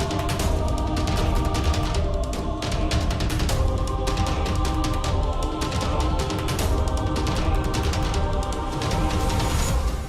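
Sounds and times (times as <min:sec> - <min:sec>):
loud music with heavy drumming: 0:00.0 - 0:10.0.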